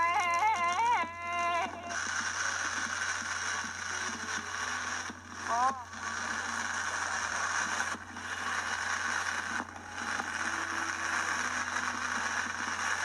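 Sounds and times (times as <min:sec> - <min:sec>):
background static hiss: 0:01.2 - 0:13.0.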